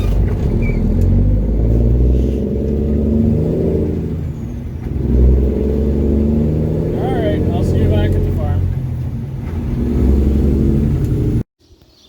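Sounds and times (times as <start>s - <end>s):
truck diesel engine accelerating: 0.0s - 11.5s.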